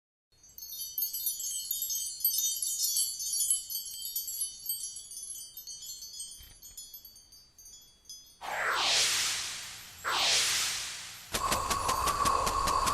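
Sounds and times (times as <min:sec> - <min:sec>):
high tinkling chimes: 0:00.3 - 0:12.9.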